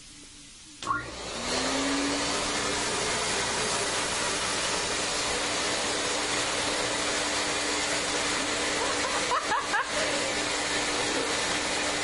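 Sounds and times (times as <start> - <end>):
motor appliance humming: 0.8 - 12.0.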